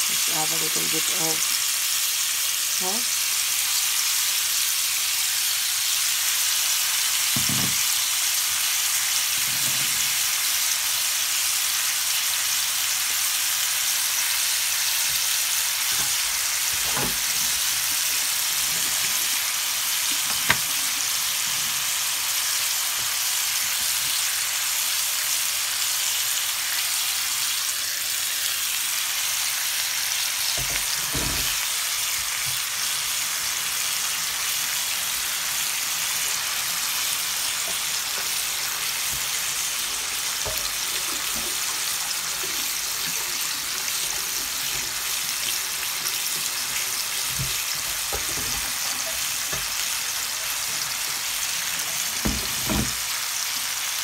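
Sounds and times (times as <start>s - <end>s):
pork chops sizzling in grill pan: 0.0s - 54.0s.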